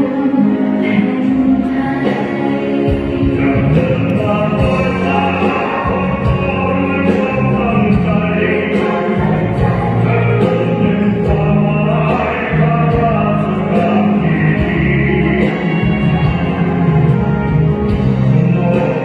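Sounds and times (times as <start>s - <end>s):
song with vocals and steady beat: 0.0s - 19.0s.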